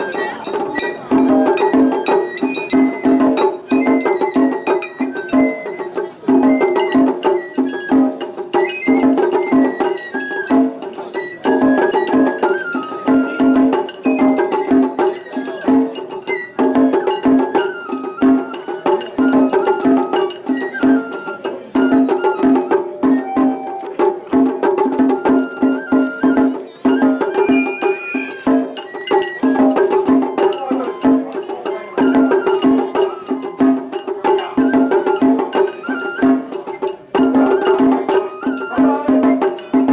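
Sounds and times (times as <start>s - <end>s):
bamboo flute melody: 0.0s - 39.9s
fast taiko drumming: 0.0s - 39.9s.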